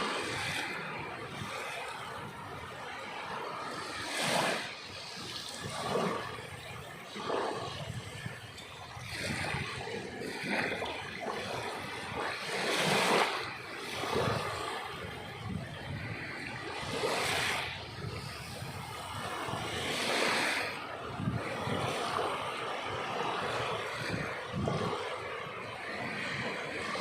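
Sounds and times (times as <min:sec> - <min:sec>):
sea waves washing onto shore: 0:00.0 - 0:27.0.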